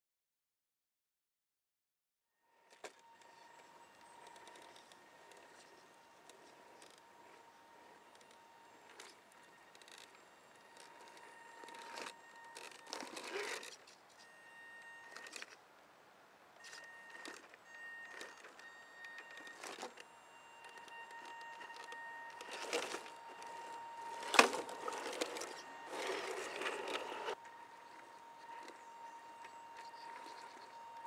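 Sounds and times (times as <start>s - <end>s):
electric motor whining: 2.7s - 15.6s, 16.6s - 31.0s
twigs crackling under tyres: 3.3s - 14.2s, 16.6s - 31.0s.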